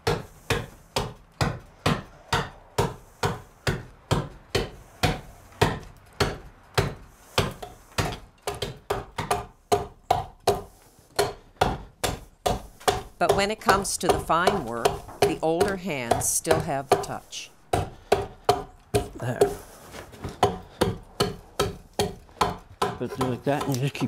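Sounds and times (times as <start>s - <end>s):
axe chopping wood: 0.0s - 24.0s.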